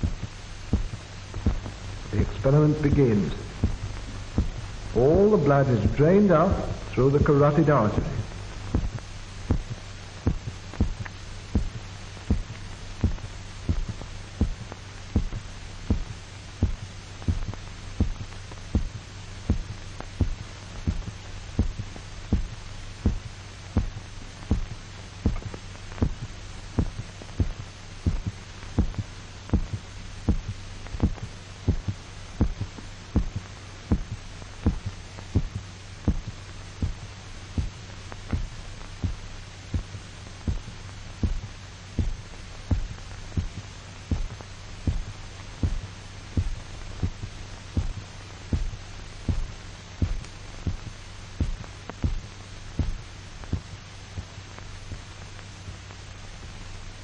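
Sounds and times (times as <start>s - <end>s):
amplified dog heartbeat thumping: 0.0s - 57.0s
steady low hum: 0.0s - 57.0s.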